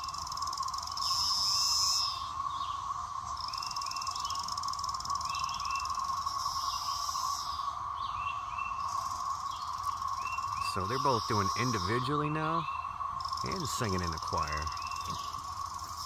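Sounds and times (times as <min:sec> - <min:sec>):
cicada chorus droning: 0:00.0 - 0:16.0
nearby cicada pulsing buzz: 0:00.0 - 0:16.0.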